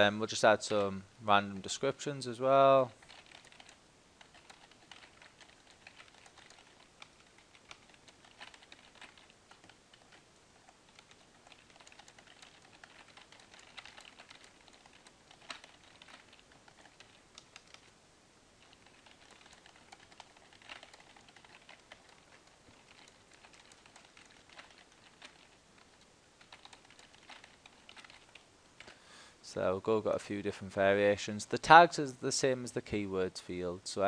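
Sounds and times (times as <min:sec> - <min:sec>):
faint keyboard typing: 0:00.0 - 0:29.1.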